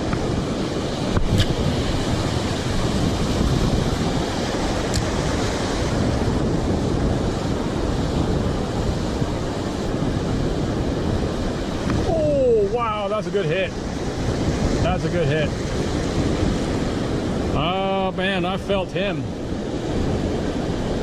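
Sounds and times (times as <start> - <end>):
ocean surf breaking: 0.0 - 21.0
wind buffeting the microphone: 0.0 - 21.0.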